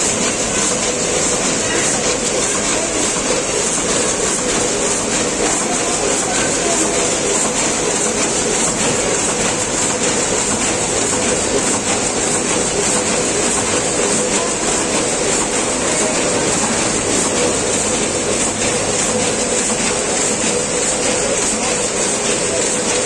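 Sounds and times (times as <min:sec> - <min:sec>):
machine hum: 0:00.0 - 0:23.0
packing machine clatter: 0:00.0 - 0:23.0.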